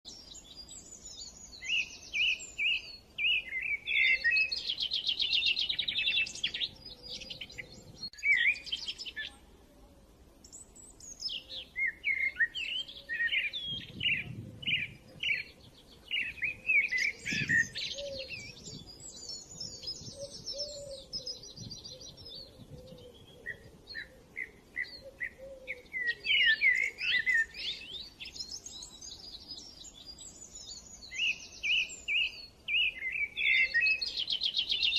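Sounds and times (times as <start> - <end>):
small birds chirping and singing: 0.1 - 34.9.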